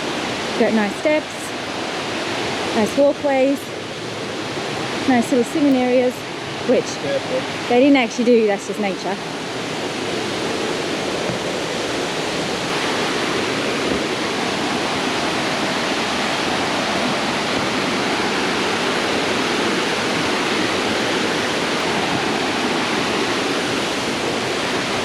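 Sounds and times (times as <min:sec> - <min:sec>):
creek water cascading: 0:00.0 - 0:25.0.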